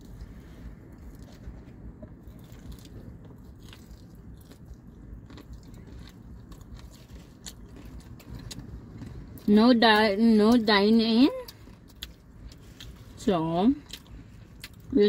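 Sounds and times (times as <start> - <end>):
crunchy chewing of fried chicken: 0.0 - 15.0.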